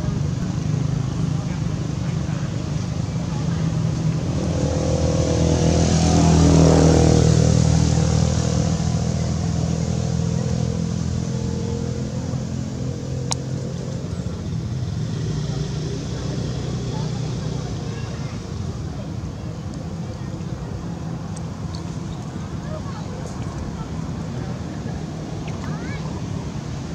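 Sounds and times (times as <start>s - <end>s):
vehicle engine passing: 0.0s - 26.9s.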